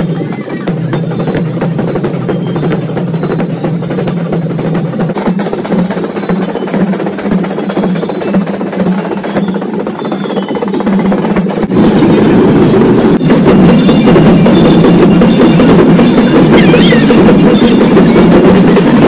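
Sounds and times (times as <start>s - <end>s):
marching drum line: 0.0s - 19.0s.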